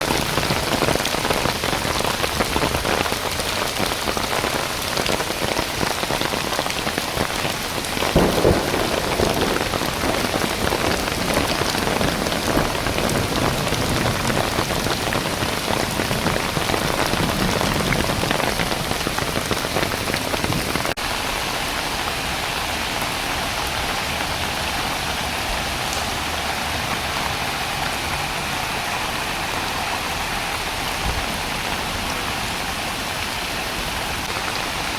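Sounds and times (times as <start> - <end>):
floodwater rushing in a brook: 0.0 - 34.9
heavy rain hissing: 0.0 - 34.9.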